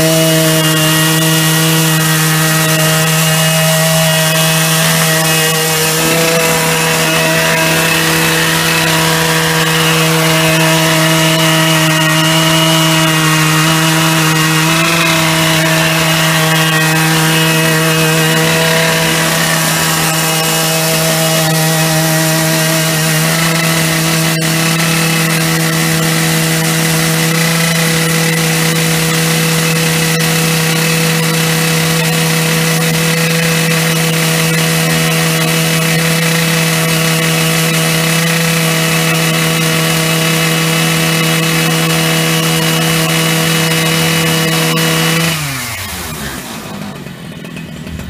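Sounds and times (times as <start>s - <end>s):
chainsaw cutting log: 0.0s - 48.0s.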